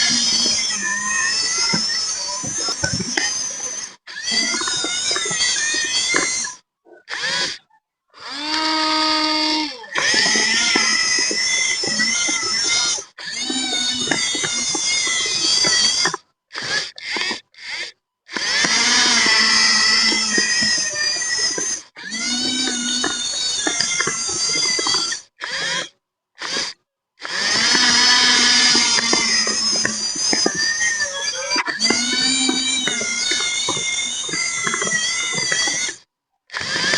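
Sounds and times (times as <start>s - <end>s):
electric motors whining: 0.0s - 36.9s.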